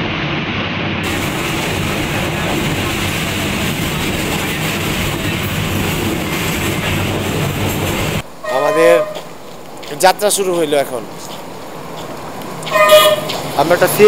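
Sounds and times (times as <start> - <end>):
passenger train running: 1.0 - 14.0.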